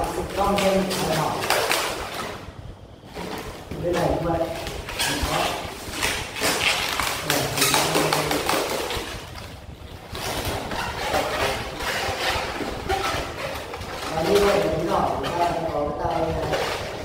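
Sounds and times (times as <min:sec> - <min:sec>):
rubber balloon squeaking while twisted: 0:00.0 - 0:17.0.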